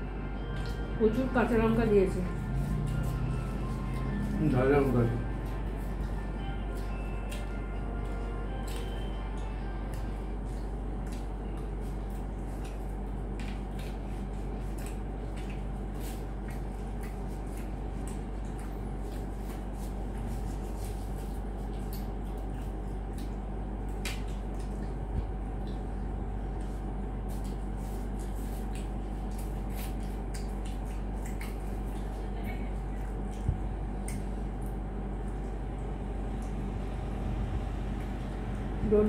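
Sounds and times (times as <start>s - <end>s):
steady low hum: 0.0s - 39.0s
soft chewing squishes: 0.5s - 1.0s, 2.0s - 38.8s.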